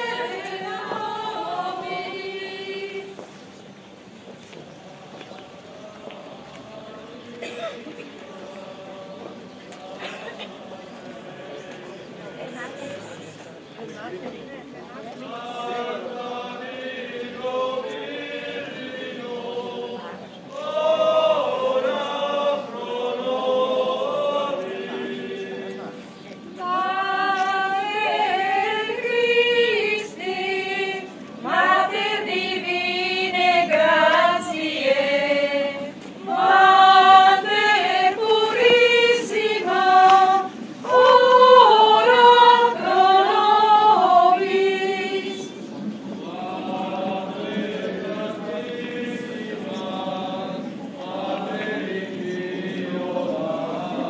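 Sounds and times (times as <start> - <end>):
people singing a hymn: 0.0 - 54.0.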